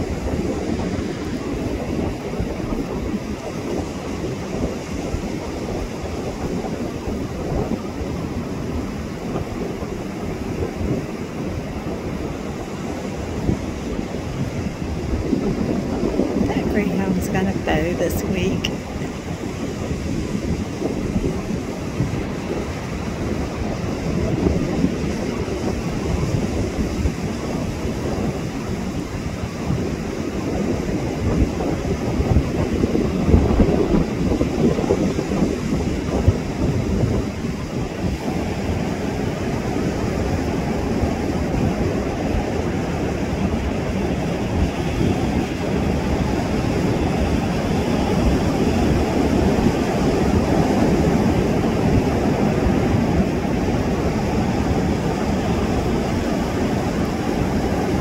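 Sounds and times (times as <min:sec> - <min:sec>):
ocean surf rushing: 0:00.0 - 0:58.0
wind buffeting microphone: 0:00.0 - 0:58.0.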